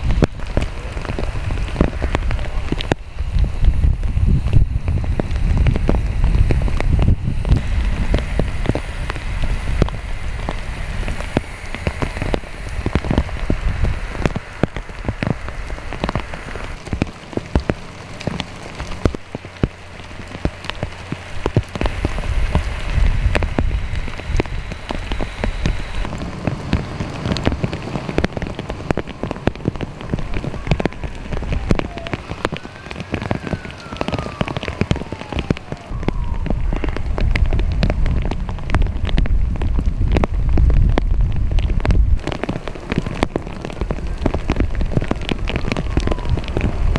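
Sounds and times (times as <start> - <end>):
low rumble: 0.0 - 46.9
raindrops hitting surfaces: 0.0 - 46.9.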